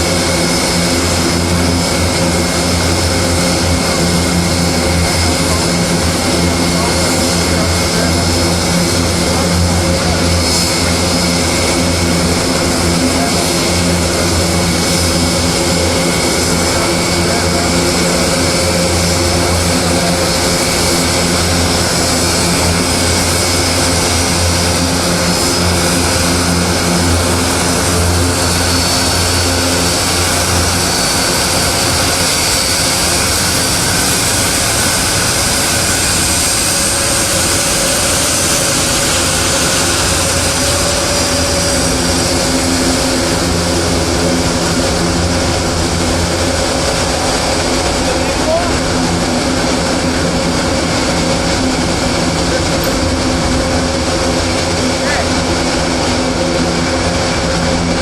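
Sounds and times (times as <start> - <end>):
aircraft engines humming and whining: 0.0 - 58.0.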